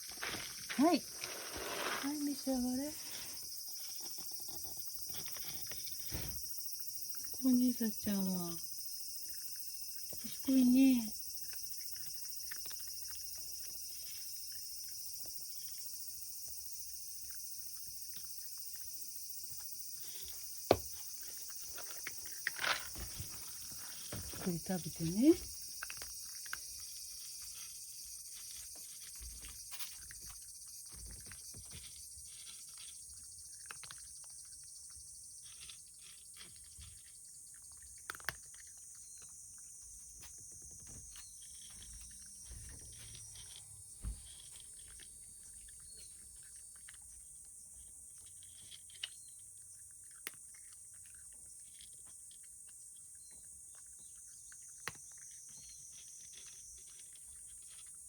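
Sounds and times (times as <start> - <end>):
cat chewing and licking: 2.9 - 8.4, 9.0 - 58.0.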